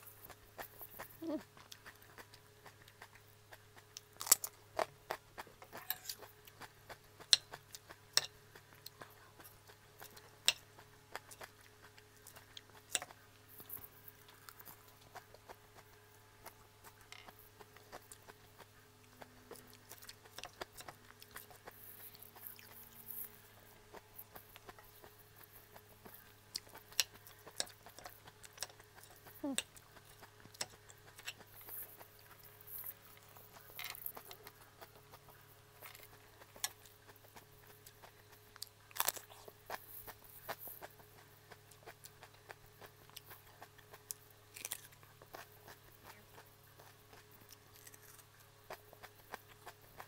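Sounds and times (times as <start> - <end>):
chewing and crunching vegetables: 0.0 - 50.0
faint steady hum: 0.0 - 50.0.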